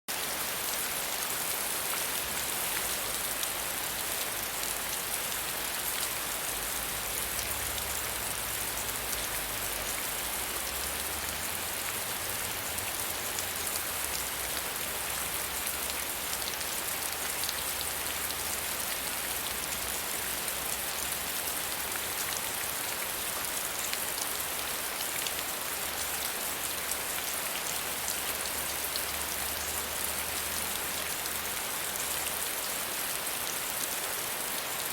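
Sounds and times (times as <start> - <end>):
soft rain with drop ticks: 0.1 - 34.9.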